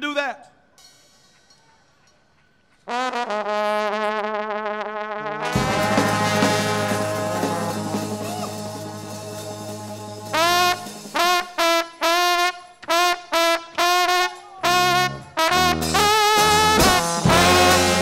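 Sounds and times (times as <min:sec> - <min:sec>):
trombone brass band chords: 0:02.9 - 0:18.0.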